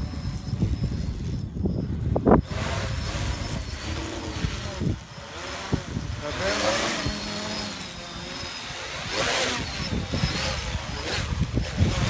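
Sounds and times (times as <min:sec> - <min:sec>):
drone motors whining: 0:00.0 - 0:12.0
wind buffeting microphone: 0:00.0 - 0:12.0.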